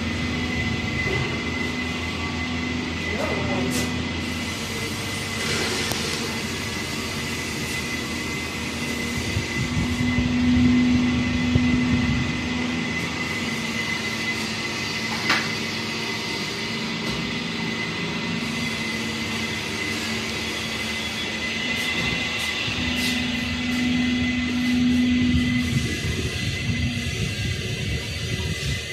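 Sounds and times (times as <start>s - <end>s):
clay mixer motor humming: 4.0s - 28.4s.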